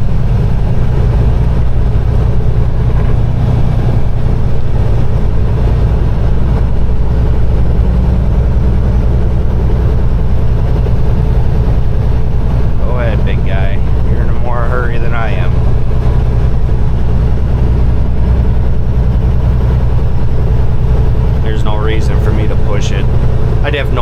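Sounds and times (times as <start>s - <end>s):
truck diesel engine droning: 0.0s - 24.0s.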